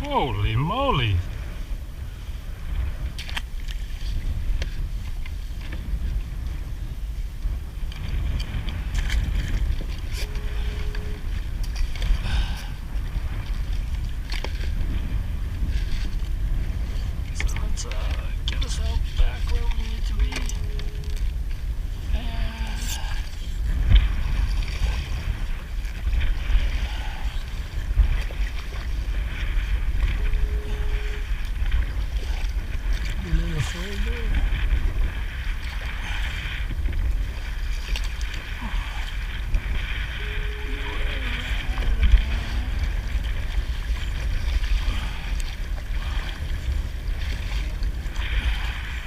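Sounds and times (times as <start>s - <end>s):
kayak splashing through water: 0.0s - 49.0s
wind on microphone: 0.0s - 49.0s.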